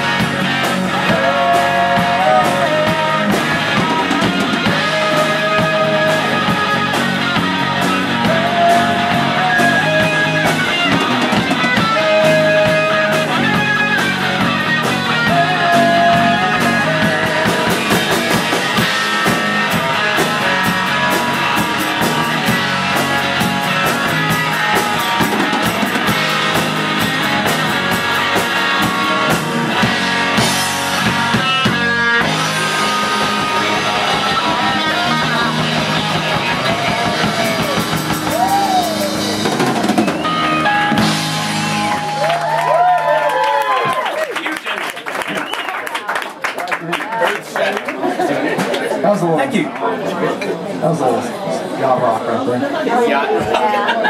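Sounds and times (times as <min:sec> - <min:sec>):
drum kit: 0:00.0 - 0:44.0
electric guitar lead: 0:00.0 - 0:44.0.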